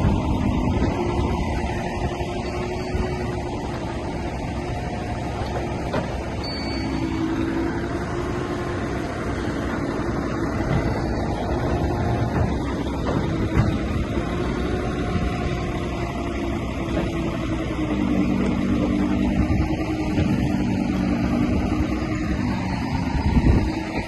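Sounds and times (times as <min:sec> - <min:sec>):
diesel earthmoving machinery: 0:00.0 - 0:24.0.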